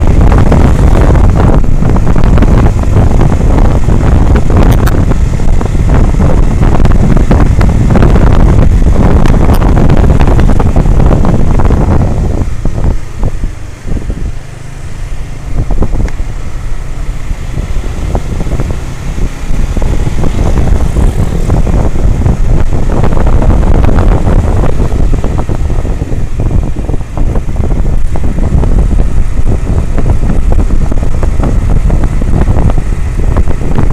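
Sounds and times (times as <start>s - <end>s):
motorcycle engine running: 0.0s - 33.9s
wind rush on microphone: 0.0s - 33.9s.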